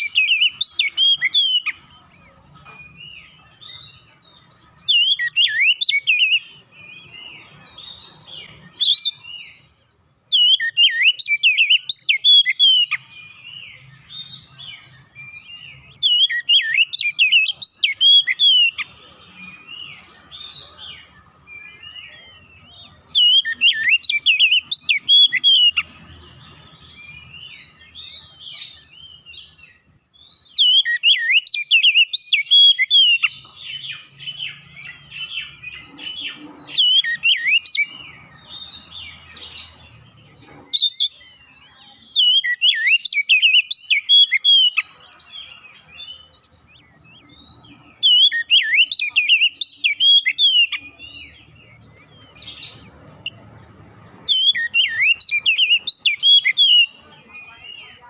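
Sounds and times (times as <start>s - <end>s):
bird singing warbling phrases: 0.0s - 58.0s.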